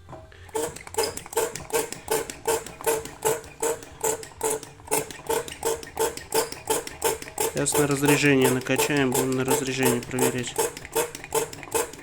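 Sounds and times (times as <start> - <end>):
hand pump squeaky hiss: 0.4 - 12.0.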